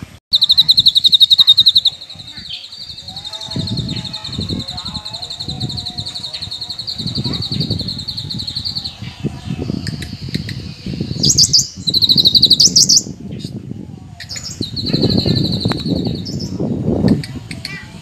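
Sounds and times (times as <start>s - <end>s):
bird singing trills: 0.3s - 13.6s, 14.2s - 17.8s.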